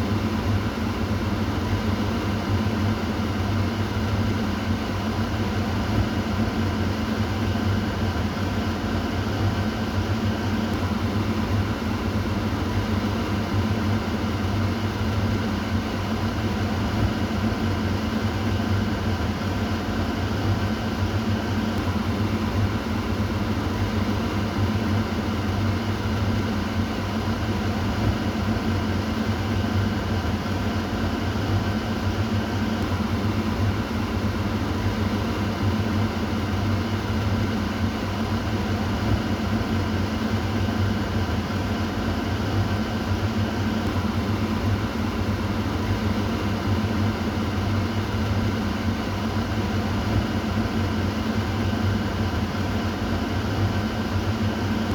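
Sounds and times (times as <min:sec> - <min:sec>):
kitchen exhaust fan whirring: 0:00.0 - 0:54.9.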